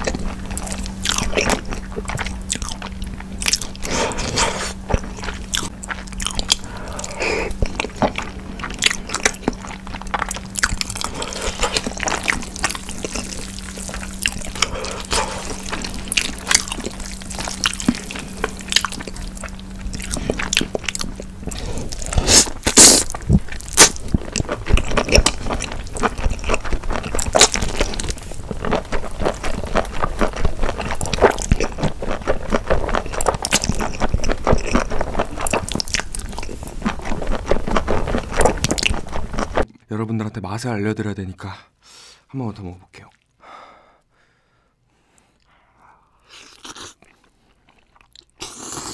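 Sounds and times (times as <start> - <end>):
chewing and lip smacks: 0.0 - 39.7, 46.2 - 48.9
faint low hum: 0.0 - 48.9.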